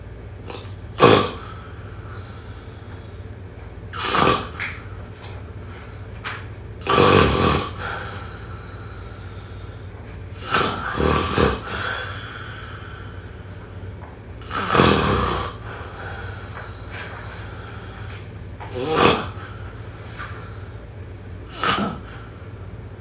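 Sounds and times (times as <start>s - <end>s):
low steady hum: 0.0s - 23.0s
person snoring: 0.5s - 3.1s, 4.0s - 5.0s, 6.8s - 20.8s, 21.5s - 23.0s.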